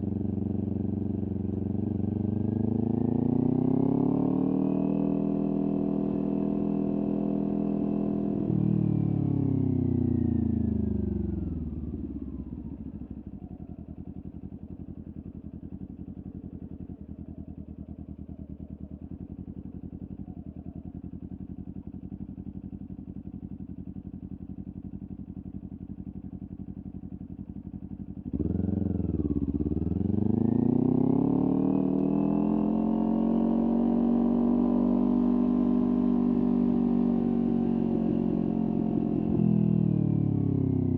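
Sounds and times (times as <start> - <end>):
motorcycle engine revving and idling: 0.0 - 40.9.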